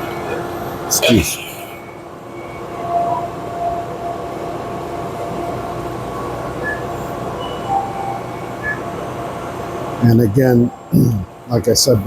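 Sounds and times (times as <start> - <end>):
oven whirring hum: 0.0 - 12.0.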